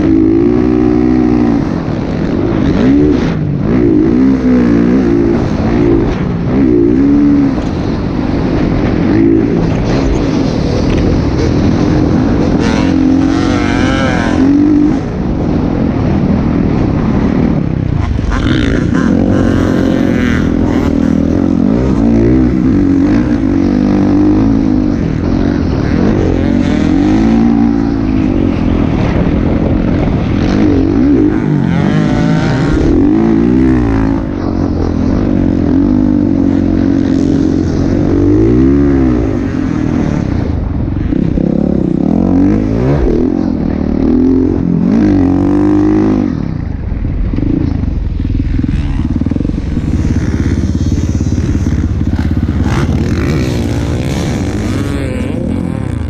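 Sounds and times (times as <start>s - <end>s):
motocross engines revving: 0.0s - 56.0s.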